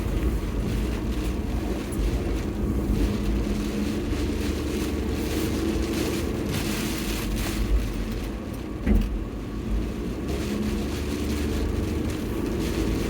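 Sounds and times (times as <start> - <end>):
tyre and road rumble: 0.0 - 13.0.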